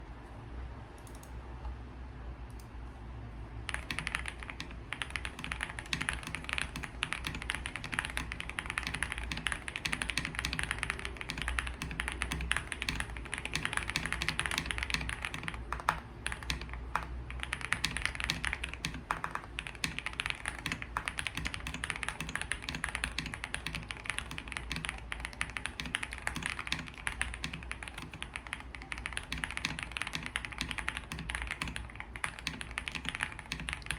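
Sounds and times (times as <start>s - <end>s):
mechanical keyboard typing: 3.6s - 33.9s.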